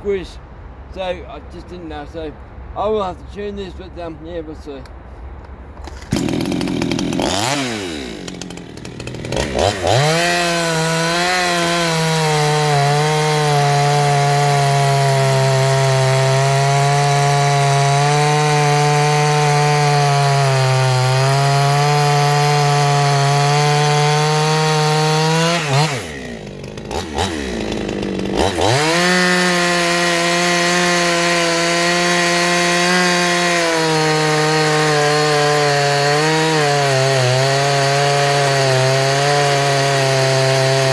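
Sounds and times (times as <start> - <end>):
chainsaw cutting wood: 5.8 - 40.9.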